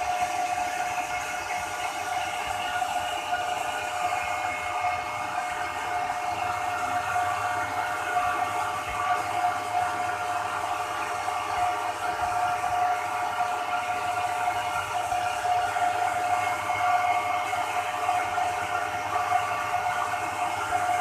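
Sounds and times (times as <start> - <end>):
cooling fans whining: 0.0 - 21.0.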